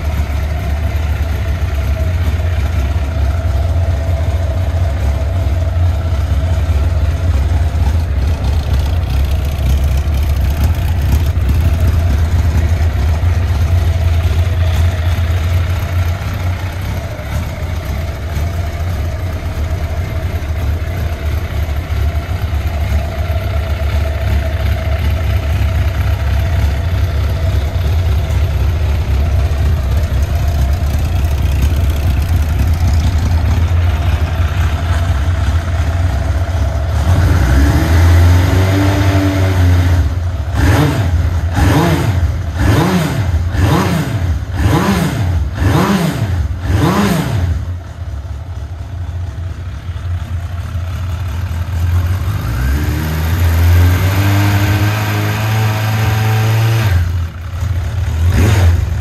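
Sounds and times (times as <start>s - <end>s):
motorcycle engine idling: 0.0s - 54.9s, 57.0s - 59.0s
motorcycle engine revving: 0.0s - 59.0s.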